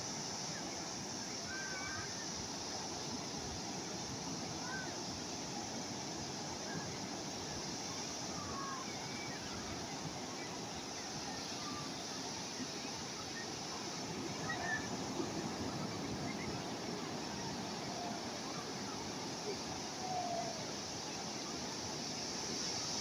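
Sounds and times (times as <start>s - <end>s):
calm sea waves washing: 0.0s - 23.0s.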